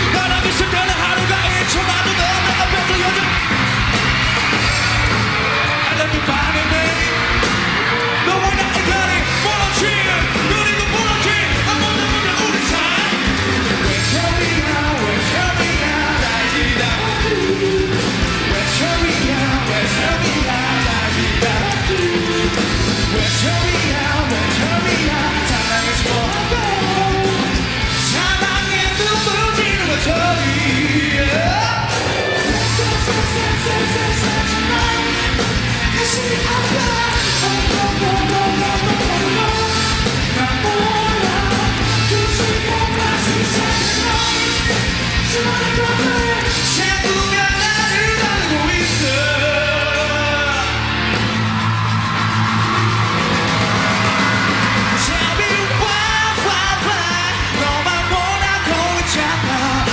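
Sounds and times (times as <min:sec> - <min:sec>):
man singing: 0:00.0 - 0:03.4, 0:05.6 - 0:07.3, 0:08.0 - 0:51.0, 0:54.6 - 0:59.9
audience cheering: 0:00.0 - 0:59.9
live pop-rock band: 0:00.0 - 0:59.9.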